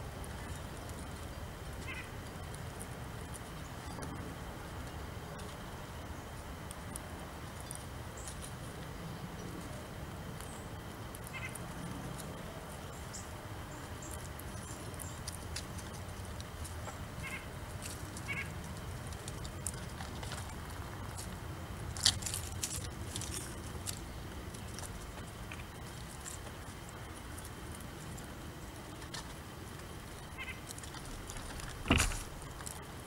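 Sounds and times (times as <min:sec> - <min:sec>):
small clicks and ticks: 0:00.1 - 0:33.0.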